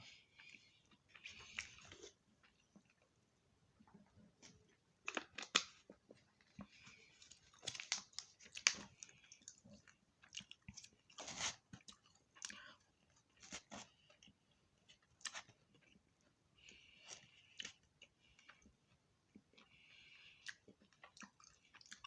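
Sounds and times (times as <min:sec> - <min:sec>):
chewing and crunching food: 0:00.0 - 0:22.0.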